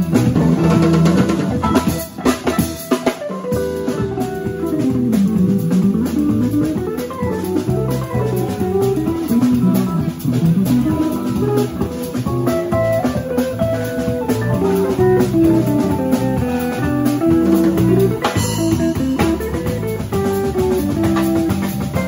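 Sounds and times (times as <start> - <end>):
drum kit: 0.0 - 22.0
electric bass: 0.0 - 22.0
guitar melody: 0.0 - 22.0
keyboard: 0.0 - 22.0.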